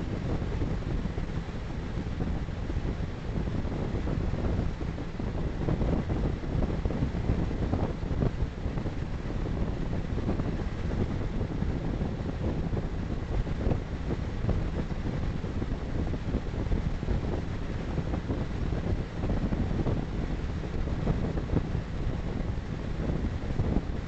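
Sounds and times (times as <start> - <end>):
motorcycle wind and road noise: 0.0 - 24.0.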